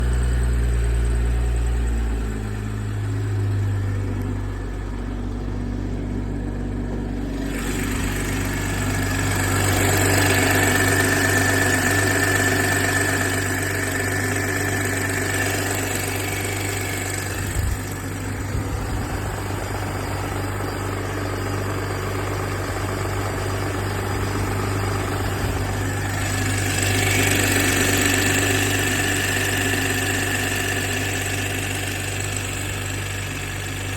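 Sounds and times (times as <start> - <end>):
car engine idling: 0.0 - 33.9
engine ticking: 0.0 - 33.9.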